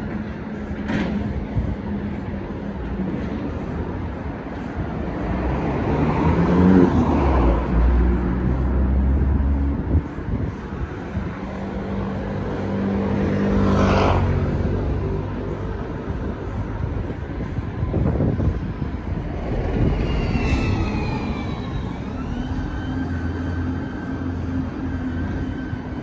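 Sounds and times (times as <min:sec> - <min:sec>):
heavy low engine drone: 0:00.0 - 0:26.0
vehicles passing: 0:00.0 - 0:26.0.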